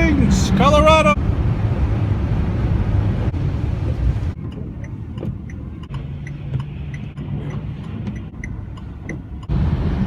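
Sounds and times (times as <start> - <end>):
van road and engine noise: 0.0 - 10.0.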